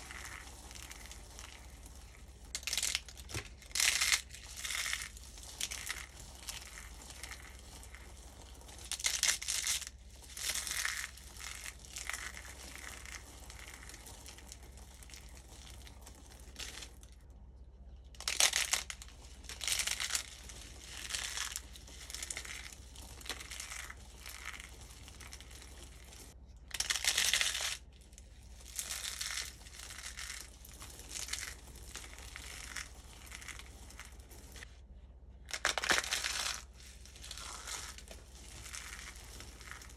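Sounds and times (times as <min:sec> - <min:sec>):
soap crunching and crackling: 0:02.5 - 0:17.1, 0:18.1 - 0:34.7, 0:35.5 - 0:39.9.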